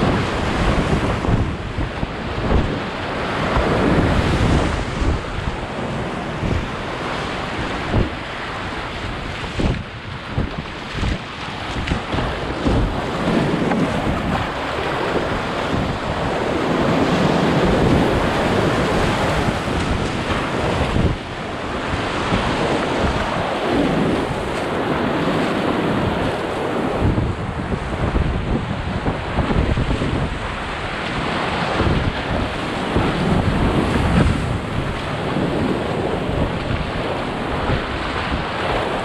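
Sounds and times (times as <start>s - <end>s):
whitewater rushing and splashing: 0.0s - 39.0s
wind buffeting microphone: 0.0s - 39.0s.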